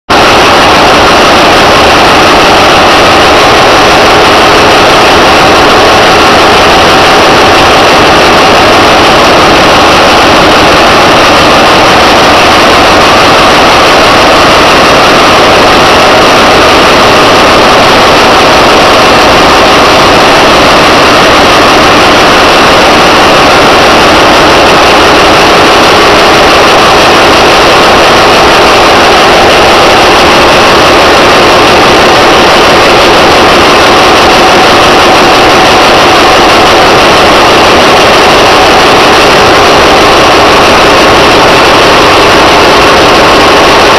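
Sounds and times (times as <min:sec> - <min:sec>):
engine room machinery drone: 0:00.0 - 0:43.9.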